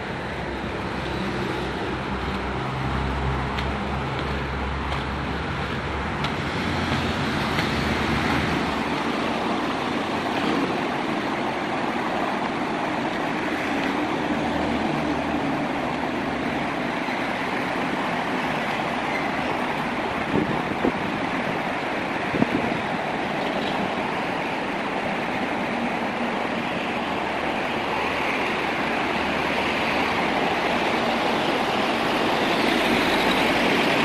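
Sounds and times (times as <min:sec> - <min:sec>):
passing cars: 0:00.0 - 0:34.0
vehicle engine rumble: 0:00.0 - 0:34.0.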